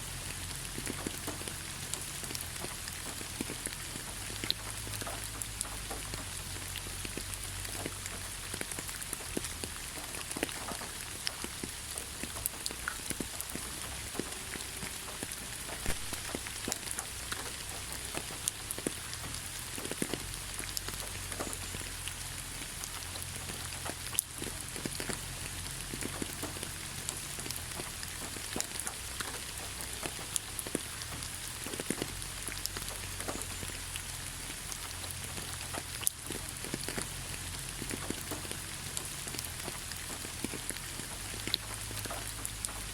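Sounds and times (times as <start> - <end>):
rain falling on leaves: 0.0 - 42.9.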